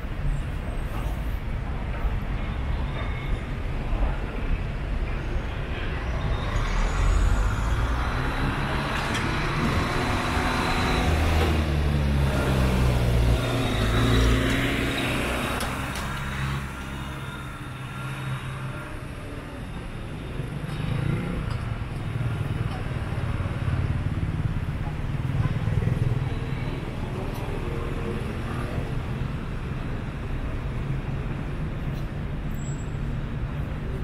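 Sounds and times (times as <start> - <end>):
car engines rumbling: 0.0 - 34.0.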